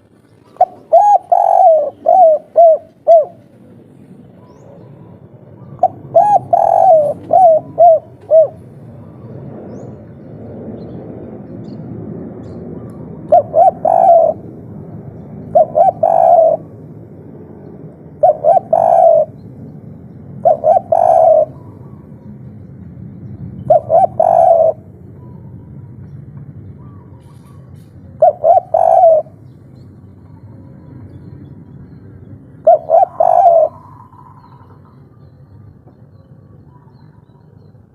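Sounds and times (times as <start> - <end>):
dove cooing: 0.0 - 3.7, 4.3 - 10.2, 12.8 - 16.9, 18.0 - 22.6, 23.6 - 26.0, 26.6 - 37.6
low background hum: 0.0 - 37.9.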